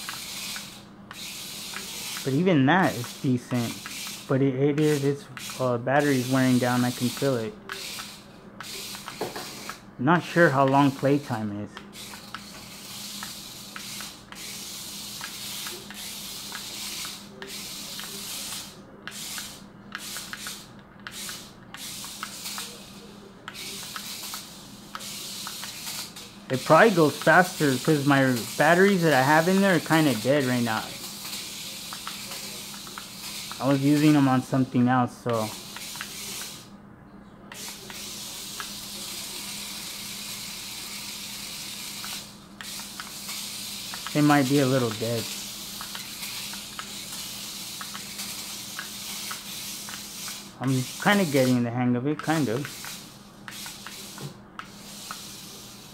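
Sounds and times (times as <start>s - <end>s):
toy car electric motors whirring: 0.0s - 36.7s, 37.5s - 55.9s.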